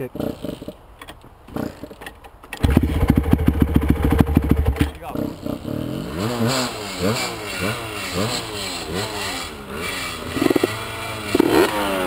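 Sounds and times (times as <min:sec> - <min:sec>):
dirt bike engine revving: 0:01.5 - 0:02.0, 0:02.6 - 0:12.0.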